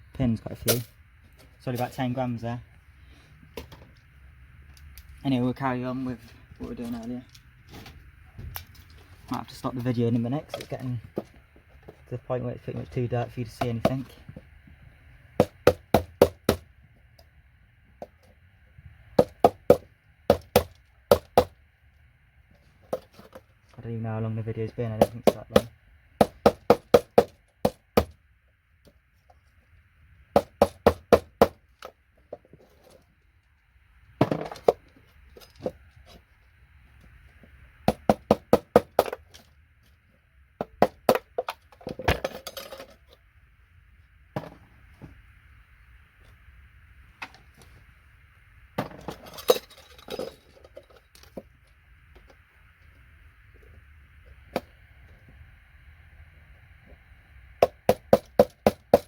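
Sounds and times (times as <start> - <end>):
faint high hum: 0.0 - 59.0.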